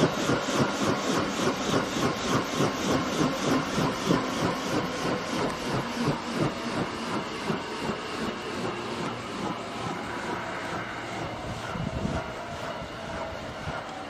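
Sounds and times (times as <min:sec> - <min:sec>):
helicopter rotor beating: 0:00.0 - 0:14.0.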